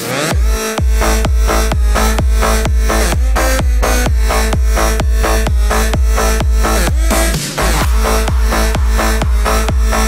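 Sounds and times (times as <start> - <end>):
electronic dance music: 0.0 - 10.0
steady kick drum: 0.3 - 10.0
sustained synth notes: 0.4 - 10.0.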